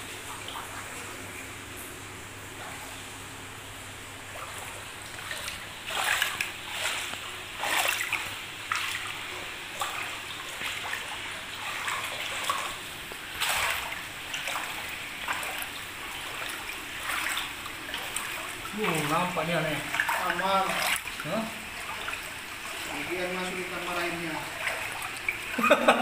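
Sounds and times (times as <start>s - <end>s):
footsteps splashing through water: 4.3s - 25.8s.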